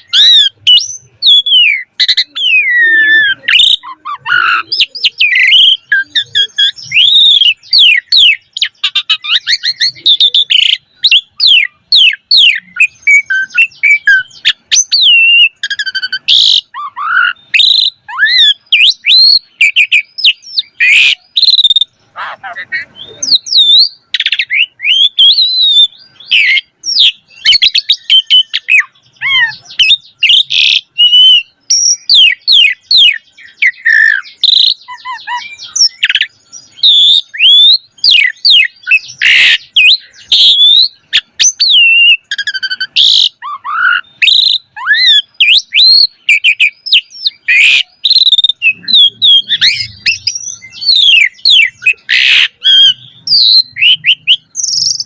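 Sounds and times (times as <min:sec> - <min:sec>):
starling singing: 0:00.0 - 0:55.0.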